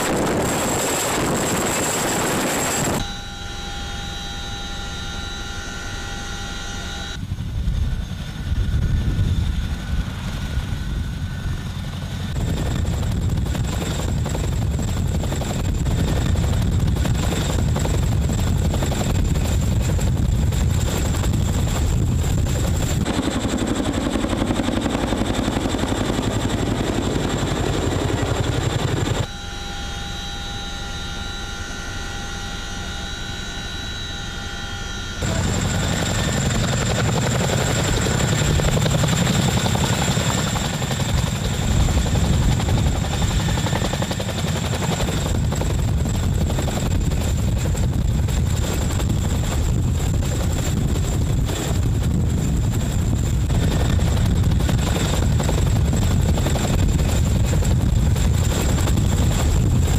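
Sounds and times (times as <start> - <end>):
helicopter rotors beating: 0.0 - 3.1, 3.8 - 29.3, 32.5 - 59.9
steady whining tones: 0.0 - 59.9
turbine engine noise: 0.0 - 59.9.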